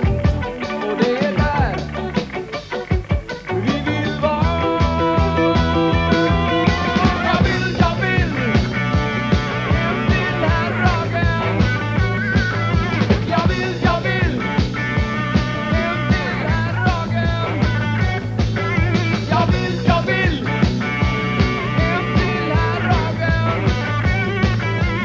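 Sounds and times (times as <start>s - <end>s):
drum kit beat: 0.0s - 25.0s
electric bass: 0.0s - 25.0s
electric guitar: 0.0s - 25.0s.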